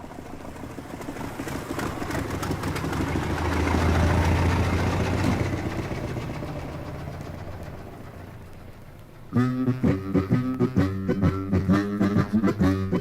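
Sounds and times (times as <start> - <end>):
old car engine rattling past: 0.0 - 13.0.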